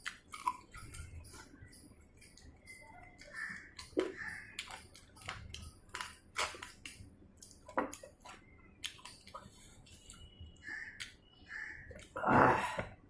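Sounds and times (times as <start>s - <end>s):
chewing and crunching food: 0.0s - 11.2s.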